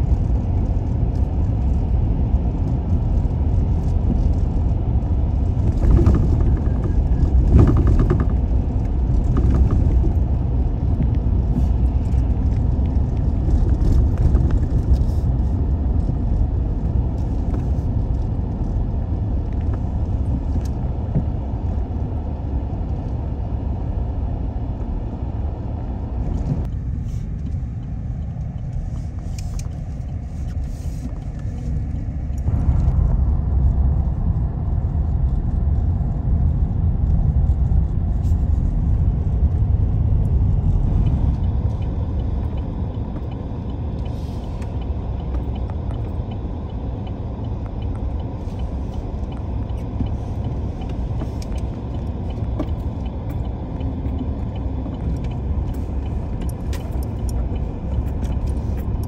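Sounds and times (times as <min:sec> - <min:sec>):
car driving rumble: 0:00.0 - 0:59.0.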